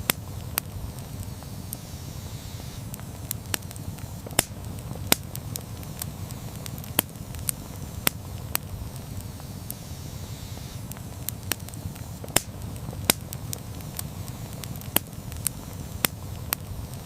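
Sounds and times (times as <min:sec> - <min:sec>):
campfire flames rumbling: 0:00.0 - 0:17.0
logs crackling and popping: 0:00.0 - 0:17.0.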